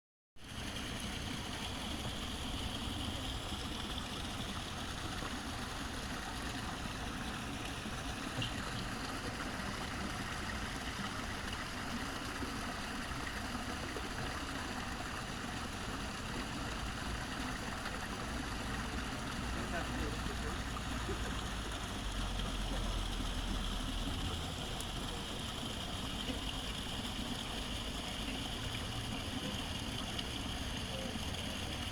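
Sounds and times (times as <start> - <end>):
running water rushing: 0.4 - 31.9.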